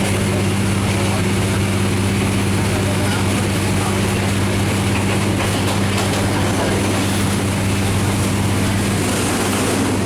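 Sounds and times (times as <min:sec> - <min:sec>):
train coach low hum: 0:00.0 - 0:10.0.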